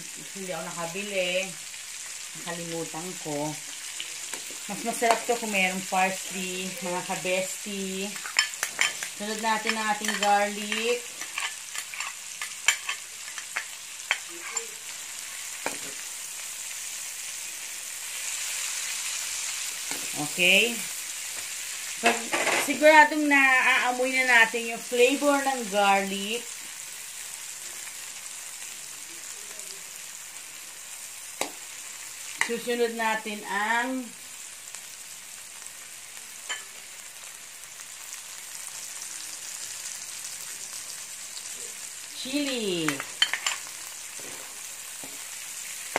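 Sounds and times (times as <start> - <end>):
vegetables sizzling in a frying pan: 0.0 - 45.9.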